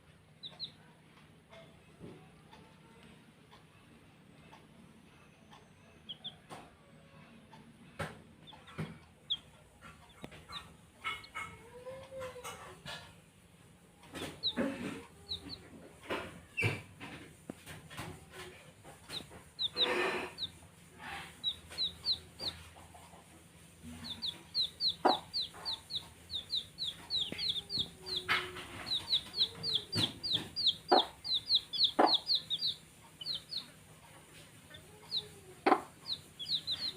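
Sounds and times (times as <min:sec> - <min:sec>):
baby chicks peeping: 0:00.0 - 0:03.6, 0:04.4 - 0:36.9.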